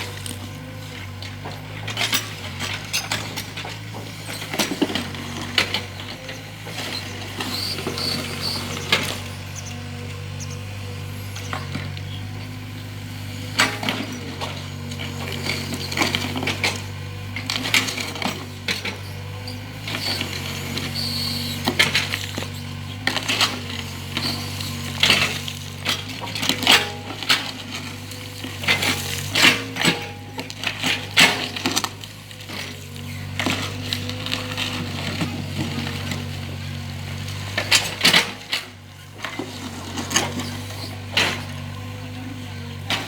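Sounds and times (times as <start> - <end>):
excavator engine humming: 0.0 - 43.0.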